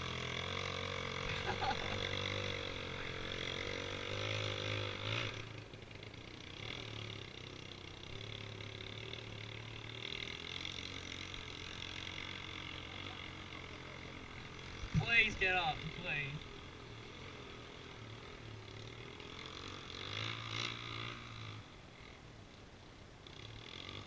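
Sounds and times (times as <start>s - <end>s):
dirt bike engine running: 0.0s - 22.2s, 23.2s - 24.0s.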